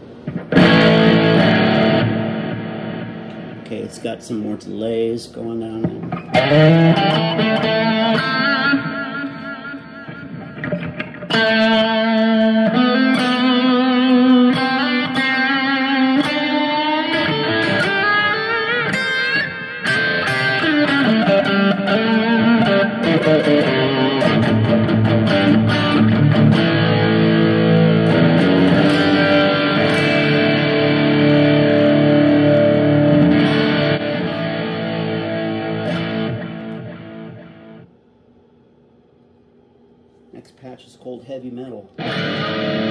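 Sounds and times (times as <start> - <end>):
electric guitar with delay: 0.0 - 4.0, 5.7 - 37.9, 42.0 - 42.9.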